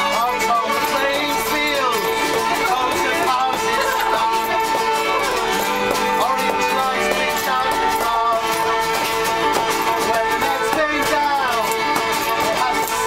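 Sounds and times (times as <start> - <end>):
acoustic folk instruments: 0.0 - 13.0
people singing: 0.0 - 13.0.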